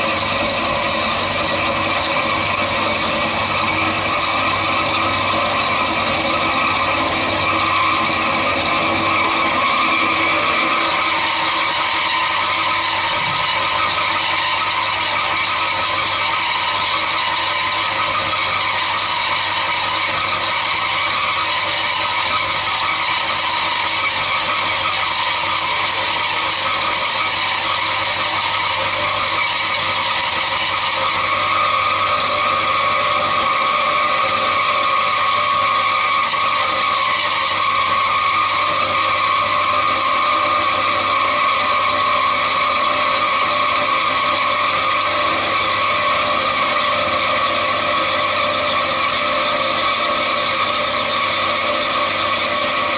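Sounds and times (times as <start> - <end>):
high ring of band saw: 0.0 - 52.9
metal band saw whirring: 0.0 - 52.9.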